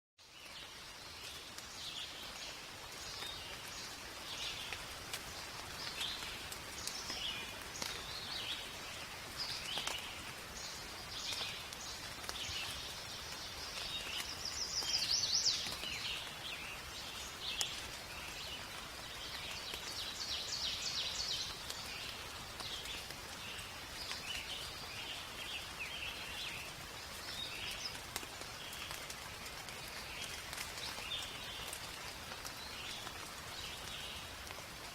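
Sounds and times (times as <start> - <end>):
rain falling in a forest: 0.2 - 34.9.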